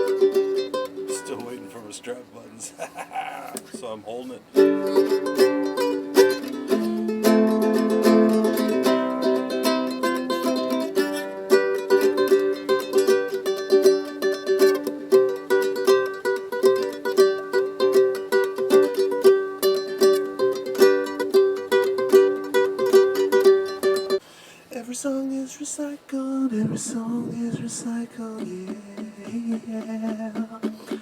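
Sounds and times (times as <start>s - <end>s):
guitalele chords and picked notes: 0.0s - 2.0s, 4.4s - 24.2s, 26.4s - 31.0s.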